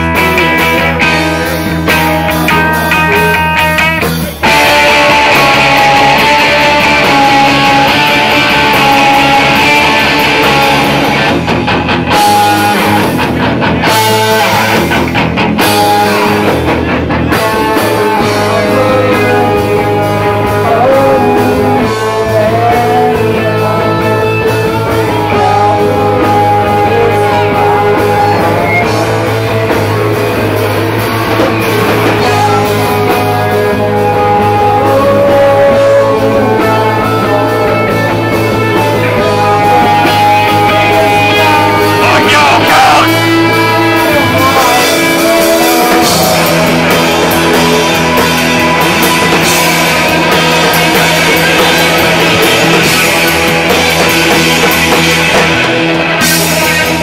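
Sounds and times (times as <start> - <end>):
electric guitar: 0.0 - 57.0
live rock band playing: 0.0 - 57.0.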